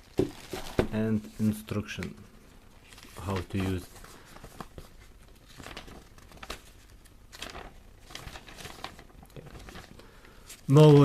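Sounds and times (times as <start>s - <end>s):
packaging rustling and crinkling: 0.0s - 2.2s, 2.8s - 11.0s.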